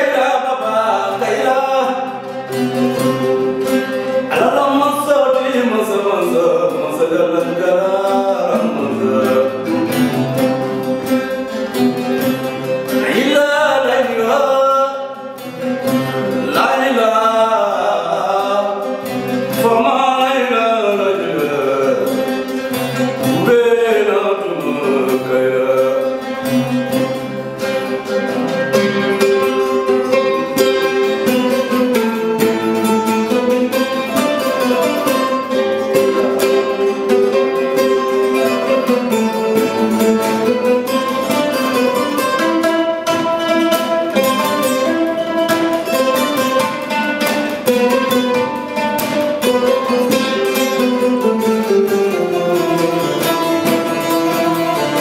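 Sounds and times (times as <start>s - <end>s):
plucked string trio melody: 0.0s - 55.0s.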